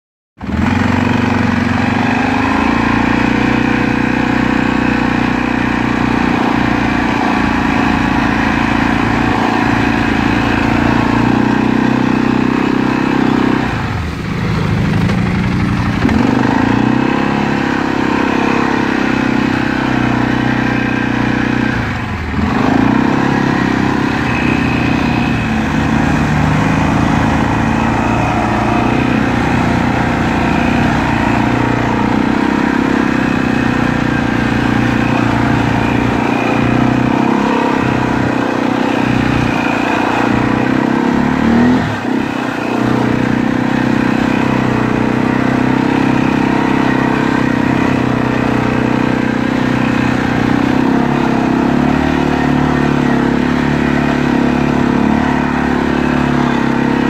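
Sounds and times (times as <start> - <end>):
atv engine running: 0.4 - 57.0.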